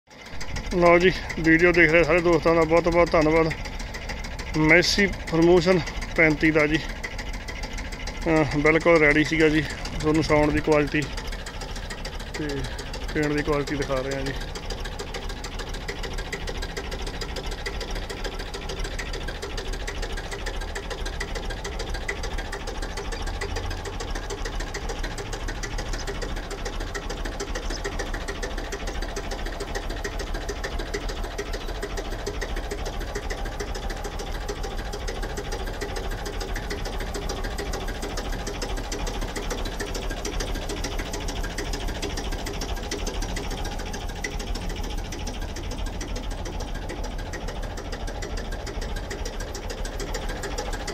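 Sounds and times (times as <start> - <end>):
tractor engine idling: 0.0 - 50.9.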